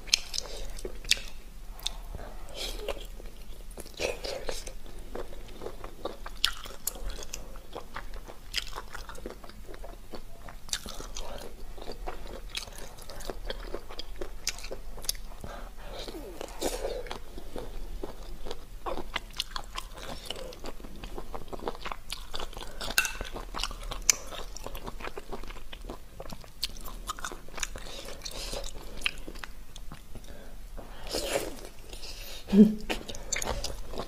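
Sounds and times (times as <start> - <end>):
close chewing: 0.0 - 30.4.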